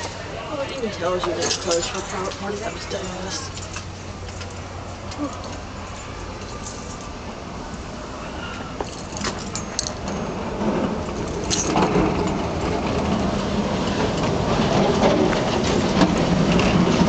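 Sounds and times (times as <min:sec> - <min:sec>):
streetcar rumbling on rails: 0:00.0 - 0:17.0.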